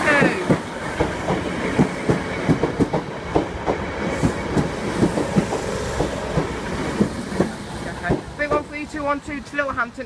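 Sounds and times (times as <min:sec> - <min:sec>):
electric train running past: 0:00.0 - 0:10.0.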